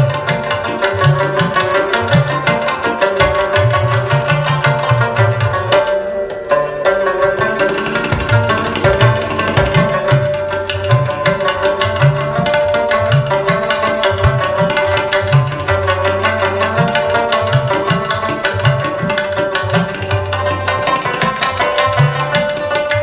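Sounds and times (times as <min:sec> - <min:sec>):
plucked strings: 0:00.0 - 0:23.0.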